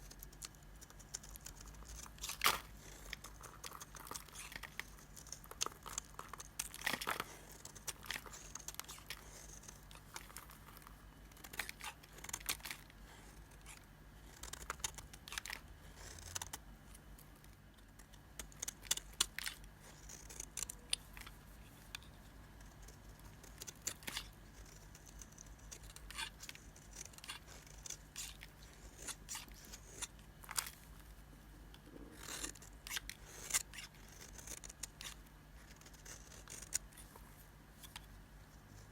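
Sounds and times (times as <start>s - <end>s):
hard soap crackling and snapping: 0.0s - 38.9s.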